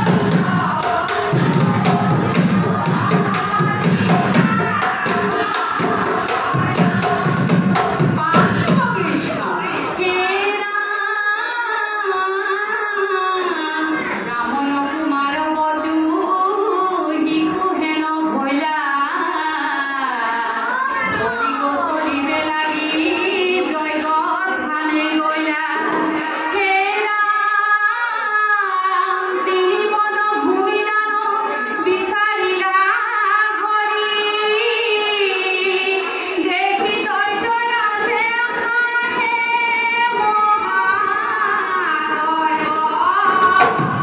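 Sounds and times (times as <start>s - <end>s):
women singing together: 0.0s - 44.0s.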